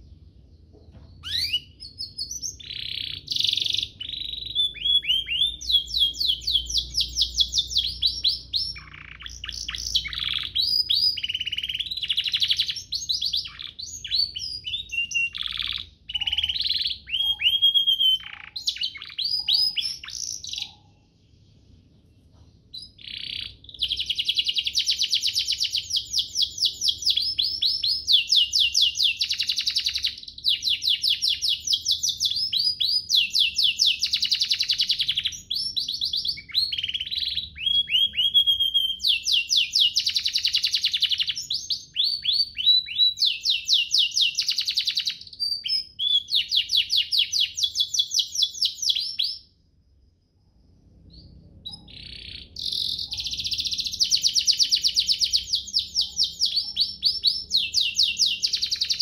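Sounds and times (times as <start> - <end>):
canary singing trills: 0.0 - 49.5, 51.0 - 59.0.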